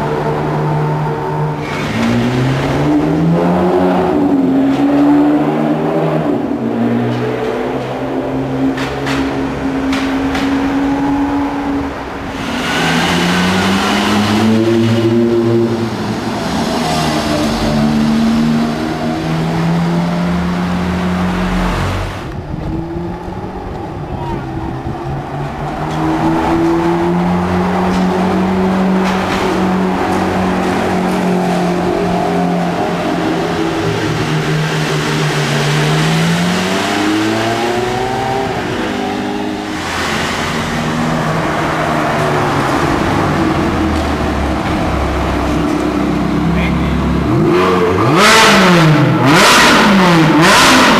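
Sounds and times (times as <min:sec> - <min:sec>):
car engines accelerating hard: 0:00.0 - 0:50.9.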